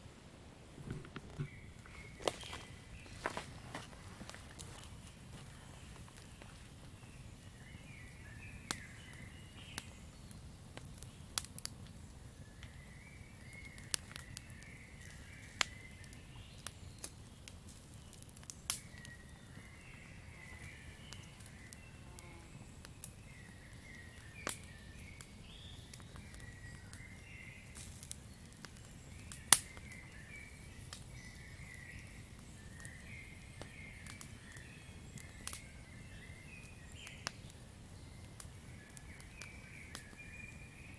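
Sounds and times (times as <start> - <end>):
campfire crackling and popping: 0.5 - 40.9.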